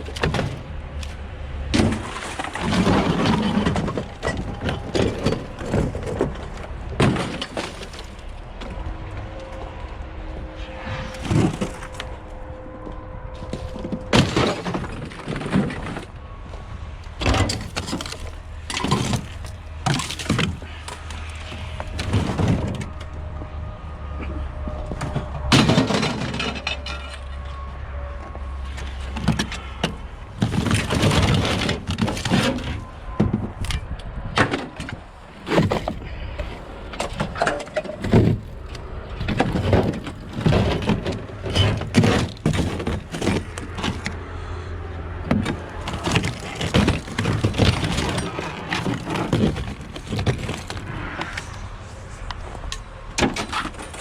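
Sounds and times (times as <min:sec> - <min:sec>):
scrap knocking and crashing: 0:00.0 - 0:09.8, 0:10.4 - 0:16.2, 0:17.1 - 0:23.1, 0:24.2 - 0:27.7, 0:28.6 - 0:44.6, 0:45.2 - 0:54.0.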